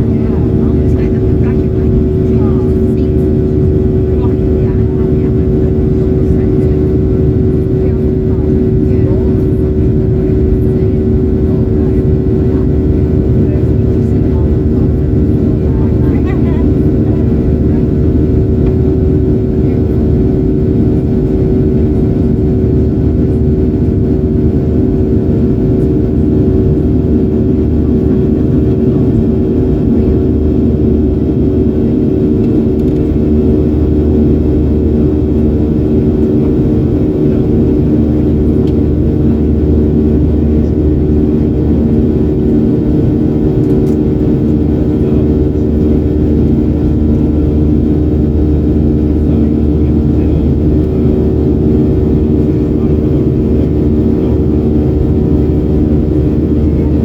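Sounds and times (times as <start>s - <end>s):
airplane cabin engine drone: 0.0s - 57.0s
multi-tone hum: 0.0s - 57.0s.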